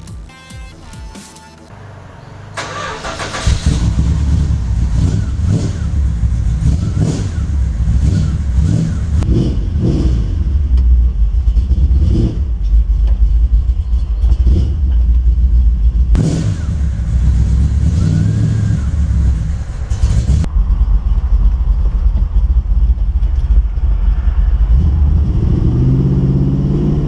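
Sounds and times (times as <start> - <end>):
pickup engine starting and revving: 1.7 - 27.0.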